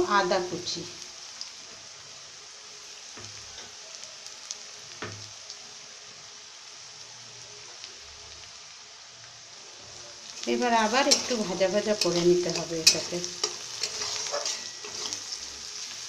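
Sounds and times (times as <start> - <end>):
onion and garlic sizzling in oil: 0.0 - 16.0.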